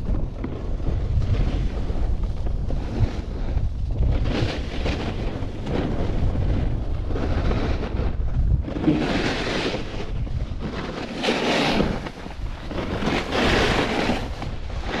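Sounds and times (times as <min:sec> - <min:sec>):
snowboard edge scraping snow: 0:00.0 - 0:15.0
wind rumbling on microphone: 0:00.0 - 0:15.0.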